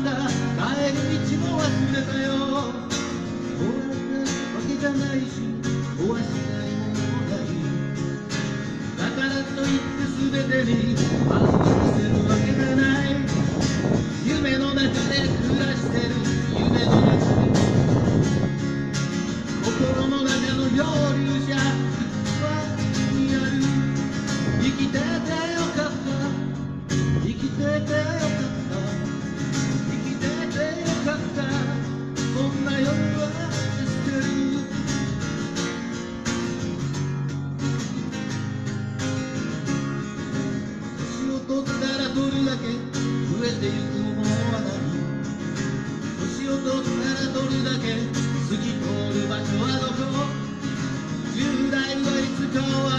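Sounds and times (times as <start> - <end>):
acoustic guitar strumming: 0.0 - 52.9.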